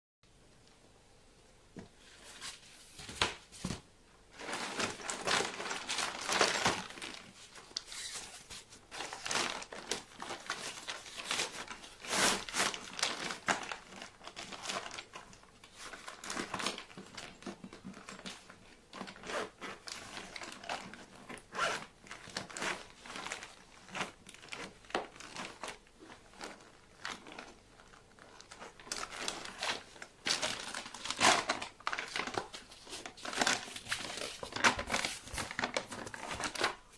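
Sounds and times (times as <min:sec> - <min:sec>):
foil lining crinkling: 0:04.4 - 0:36.9.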